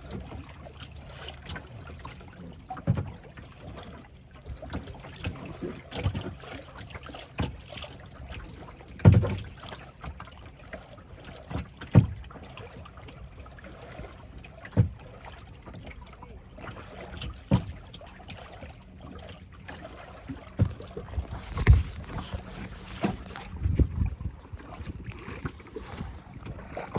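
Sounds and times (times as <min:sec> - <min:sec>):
water washing around boat: 0:00.0 - 0:26.9
waves slapping hull: 0:00.0 - 0:26.9.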